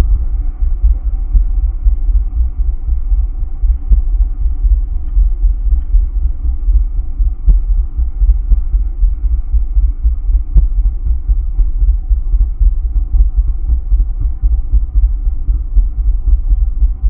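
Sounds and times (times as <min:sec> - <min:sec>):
deep throbbing bass pulse: 0:00.0 - 0:17.0
faint steady hum: 0:00.0 - 0:17.0.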